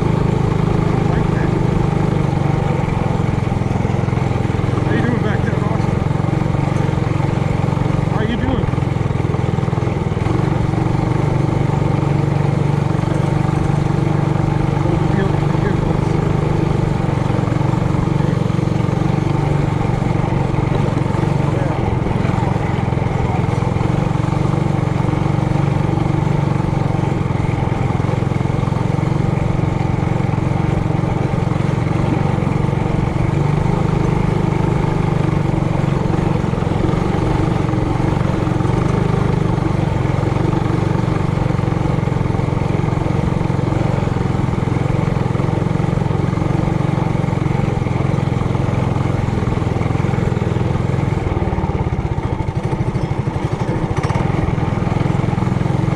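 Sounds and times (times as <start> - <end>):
mini bike engine running: 0.0 - 55.9.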